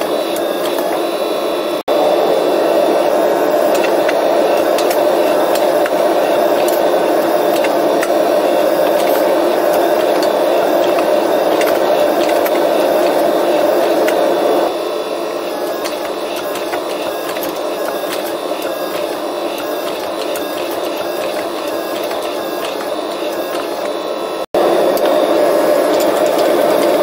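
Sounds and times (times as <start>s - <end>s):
gas torch flame burning: 0.0s - 27.0s.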